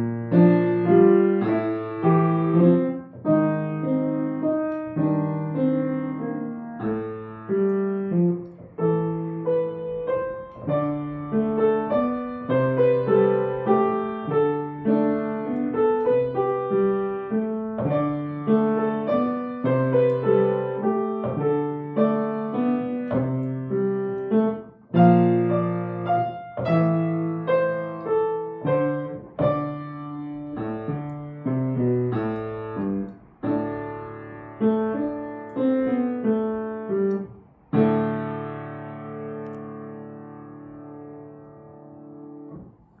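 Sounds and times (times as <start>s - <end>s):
solo piano piece: 0.0s - 43.0s.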